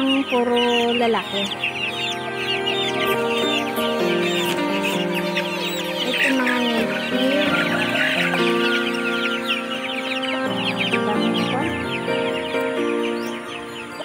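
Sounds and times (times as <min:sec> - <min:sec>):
chickens clucking: 0:00.0 - 0:14.0
instrumental background music: 0:00.0 - 0:14.0.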